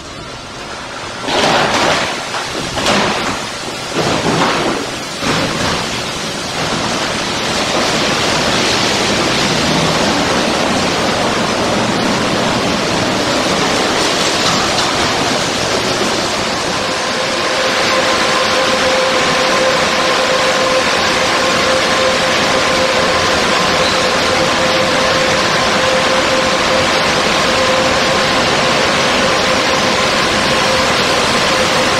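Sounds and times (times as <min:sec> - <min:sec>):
steady machine hum: 0:00.0 - 0:31.9
water spray and spinning brushes: 0:04.8 - 0:31.9.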